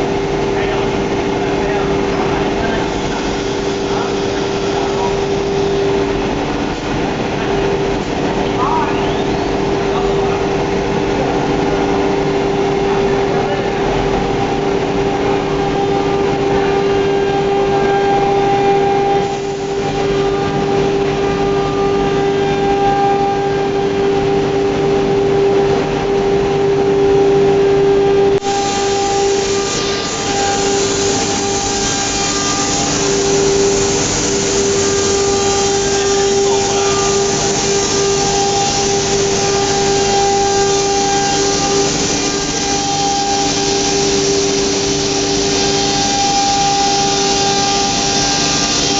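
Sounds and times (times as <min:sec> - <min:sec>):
machining and motor noise: 0:00.0 - 0:48.9
router spindle whine: 0:00.0 - 0:48.9.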